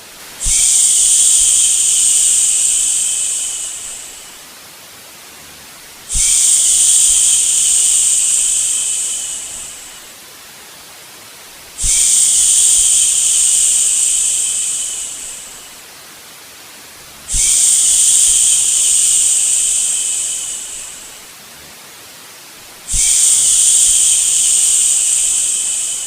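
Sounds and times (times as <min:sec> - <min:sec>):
white noise hiss: 0:00.0 - 0:26.0.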